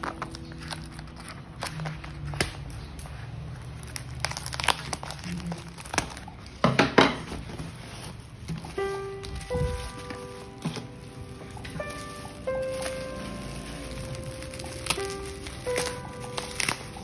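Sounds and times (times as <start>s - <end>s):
metallic envelope crinkling: 0.0s - 6.6s, 7.4s - 17.0s.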